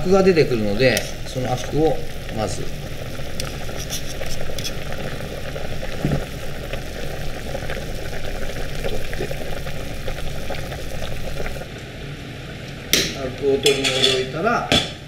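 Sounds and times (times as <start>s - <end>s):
pot boiling and bubbling: 0.0s - 14.0s.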